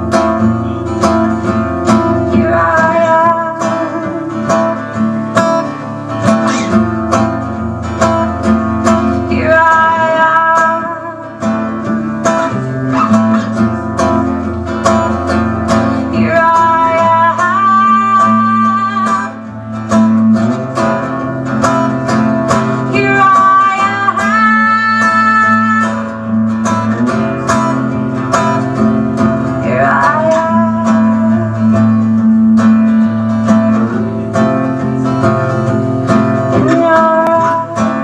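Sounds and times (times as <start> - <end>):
acoustic guitar strummed: 0.0 - 38.0.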